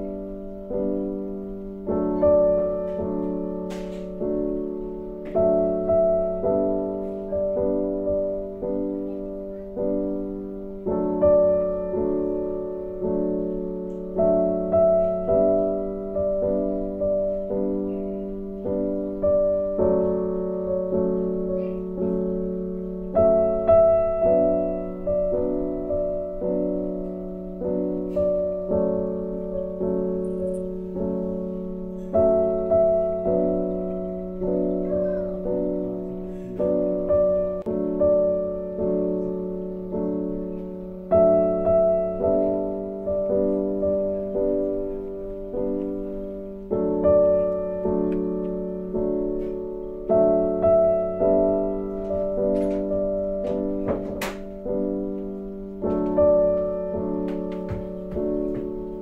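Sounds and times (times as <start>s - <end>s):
slow piano music: 0.0s - 59.0s.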